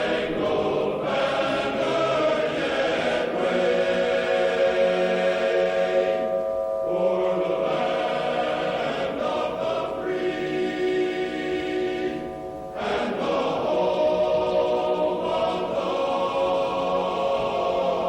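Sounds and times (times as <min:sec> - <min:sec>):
choir singing an anthem: 0:00.0 - 0:18.0.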